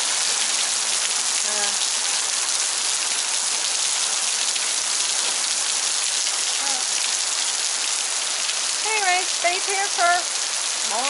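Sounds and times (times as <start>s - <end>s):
heavy rain on cars and ground: 0.0s - 11.0s.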